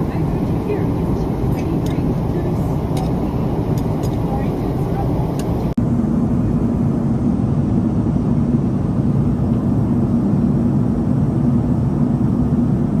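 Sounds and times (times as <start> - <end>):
airliner engines rumbling: 0.0 - 13.0
constant low hum: 0.0 - 13.0.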